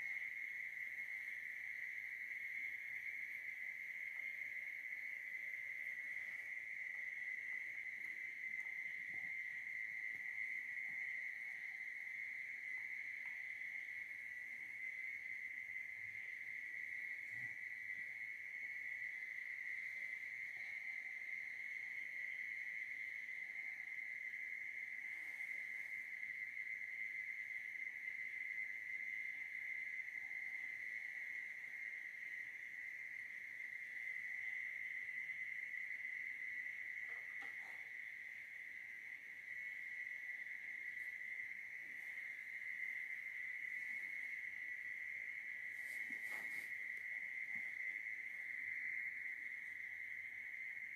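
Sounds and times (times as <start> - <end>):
crickets trilling: 0.0 - 50.9.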